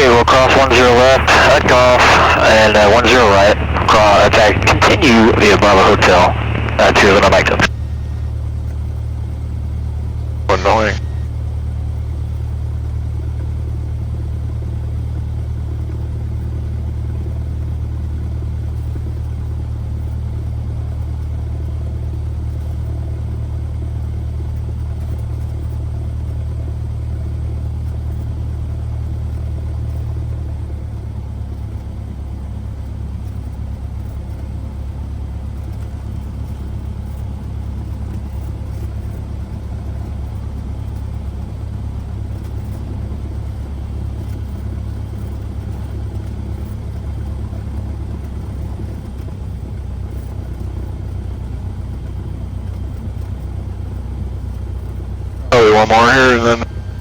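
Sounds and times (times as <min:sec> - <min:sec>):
airplane engine and propeller droning: 0:00.0 - 0:22.4, 0:30.7 - 0:57.0.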